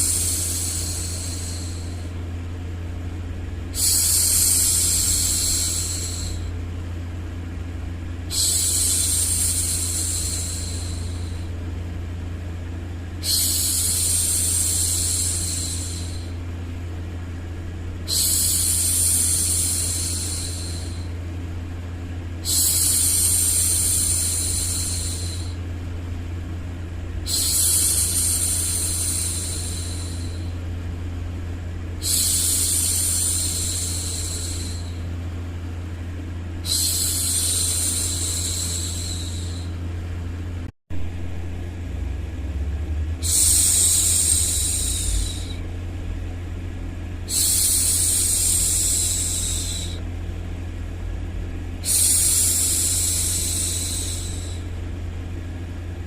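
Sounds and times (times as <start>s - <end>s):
low white noise hum: 0.0s - 56.0s.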